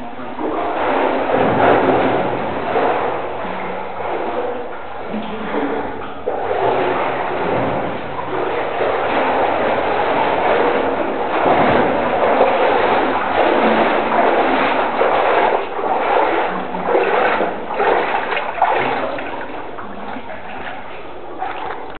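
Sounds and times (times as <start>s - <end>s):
water splashing from swimming: 0.0s - 21.9s.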